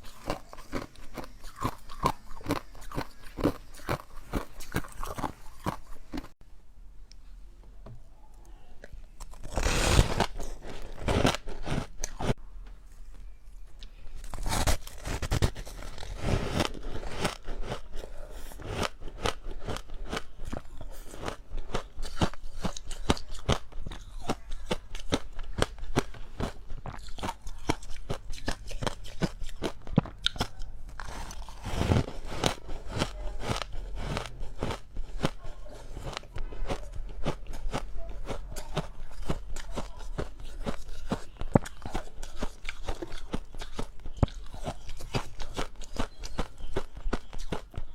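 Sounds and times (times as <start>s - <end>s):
ice being chewed: 0.0s - 6.4s, 8.8s - 12.4s, 14.2s - 47.9s.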